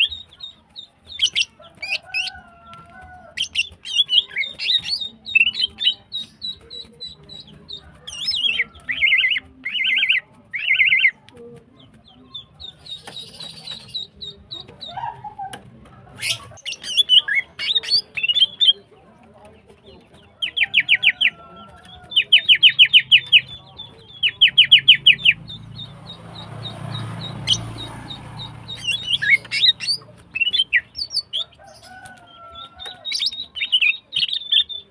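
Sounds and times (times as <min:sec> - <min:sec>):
bird chattering and whistling: 0:00.0 - 0:02.5, 0:03.3 - 0:11.2, 0:12.4 - 0:18.9, 0:20.2 - 0:34.9.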